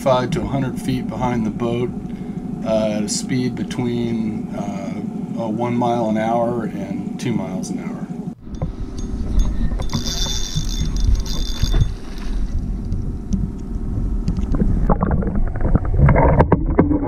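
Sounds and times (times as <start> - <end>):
wind buffeting microphone: 0.0 - 5.3, 8.4 - 17.0
muffled underwater rushing: 0.0 - 5.4, 8.6 - 17.0.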